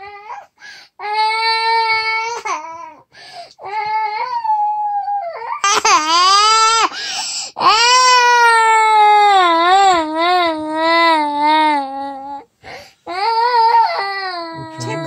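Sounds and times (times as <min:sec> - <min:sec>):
toddler crying: 0:00.0 - 0:06.9, 0:07.6 - 0:12.5, 0:13.1 - 0:15.0.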